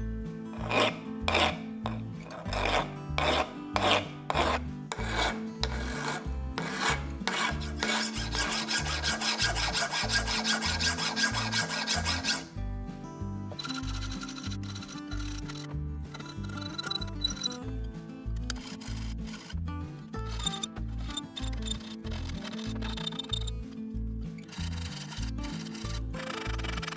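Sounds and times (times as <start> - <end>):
file rasping on metal blade: 0.6 - 12.6, 13.6 - 17.6, 18.5 - 19.6, 20.2 - 23.7, 24.4 - 26.9.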